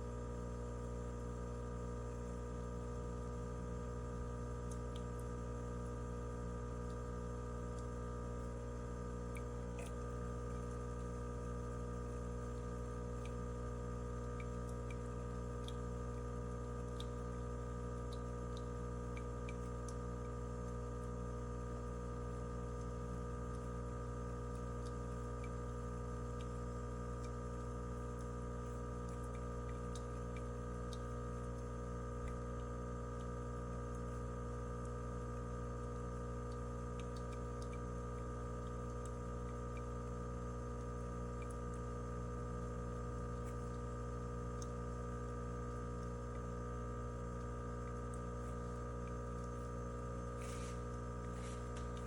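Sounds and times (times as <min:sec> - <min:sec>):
hum of held tones: 0:00.0 - 0:52.0
faint ticks: 0:04.0 - 0:52.0.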